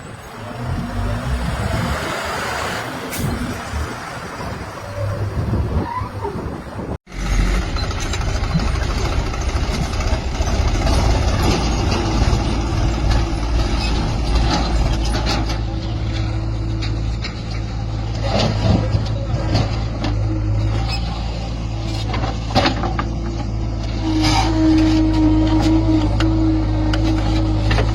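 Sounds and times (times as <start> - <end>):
diesel machinery running: 0.0 - 27.9.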